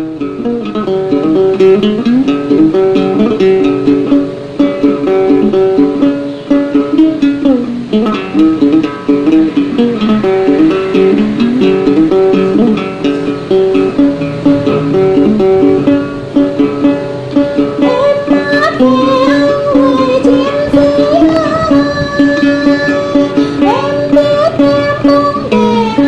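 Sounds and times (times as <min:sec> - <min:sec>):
plucked string instrument melody: 0:00.0 - 0:26.0.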